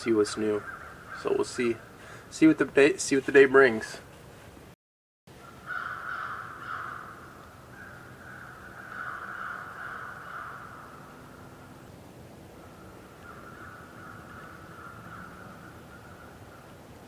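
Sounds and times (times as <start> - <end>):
distant crows cawing: 0.0 - 2.4, 5.3 - 17.0.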